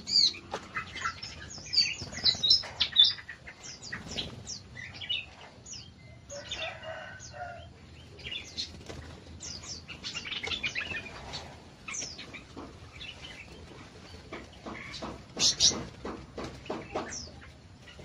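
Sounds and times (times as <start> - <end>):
wings fluttering: 0.0 - 5.0, 8.0 - 18.0
small birds chirping: 0.0 - 18.0.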